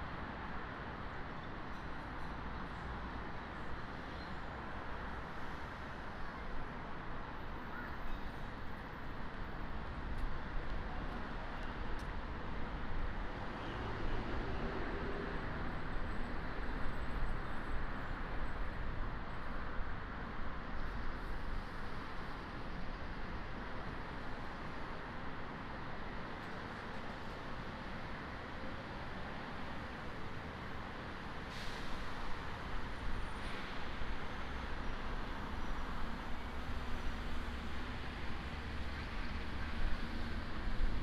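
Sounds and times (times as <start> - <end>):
traffic noise: 0.0 - 41.0.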